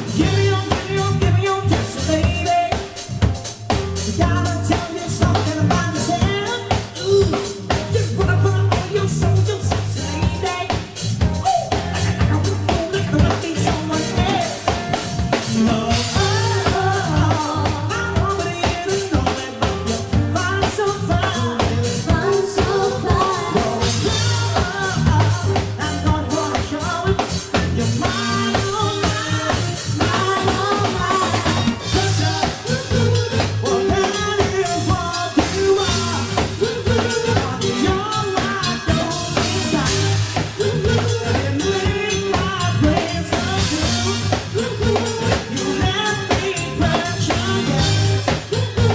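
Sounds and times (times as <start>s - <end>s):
person singing: 0.0s - 3.1s, 4.0s - 48.9s
dance music with drums and bass: 0.0s - 48.9s.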